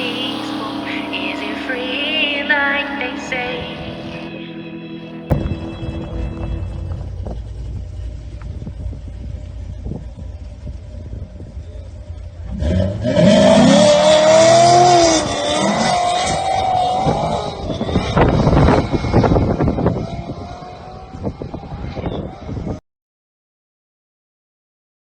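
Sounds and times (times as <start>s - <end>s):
low steady rumble: 0.0s - 21.8s
vehicle engine revving: 0.0s - 22.8s.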